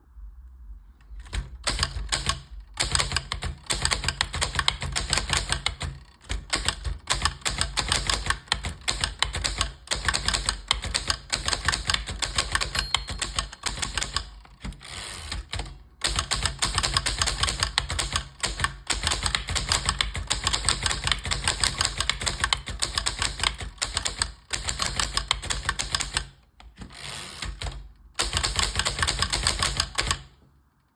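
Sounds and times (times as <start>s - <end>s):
typewriter keys clacking: 1.2s - 30.3s.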